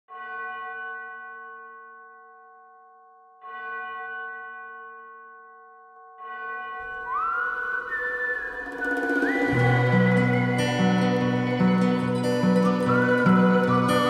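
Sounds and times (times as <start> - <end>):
bell-like chime: 0.1 - 14.0.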